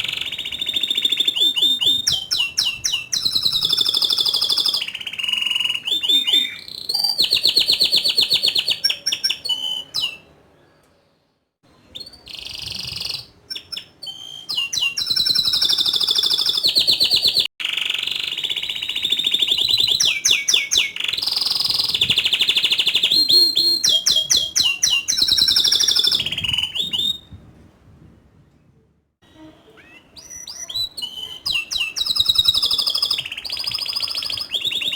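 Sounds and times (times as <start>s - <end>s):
canary singing trills: 0.0s - 10.8s, 11.7s - 27.3s, 29.2s - 34.9s.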